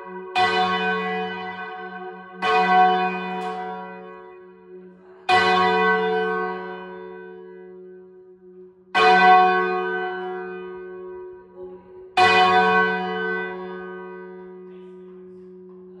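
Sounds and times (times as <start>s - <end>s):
church bell ringing: 0.0s - 16.0s.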